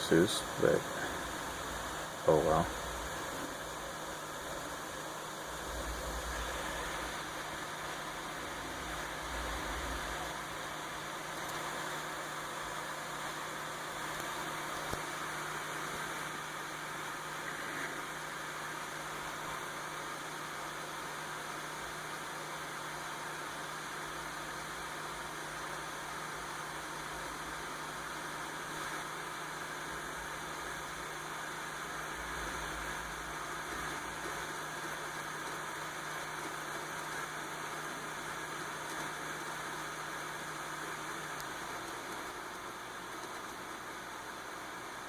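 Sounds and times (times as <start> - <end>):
computer fans whirring: 0.0 - 45.0
constant low hum: 0.0 - 45.0.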